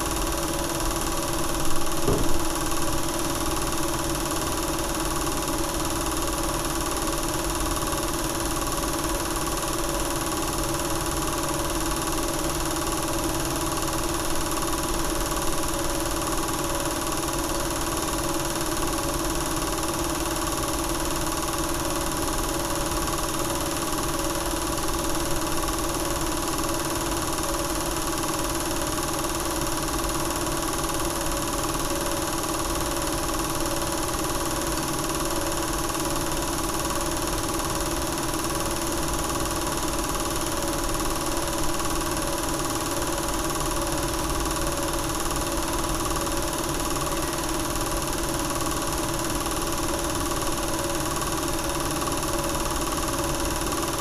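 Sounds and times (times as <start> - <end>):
film projector motor hum: 0.0 - 54.0.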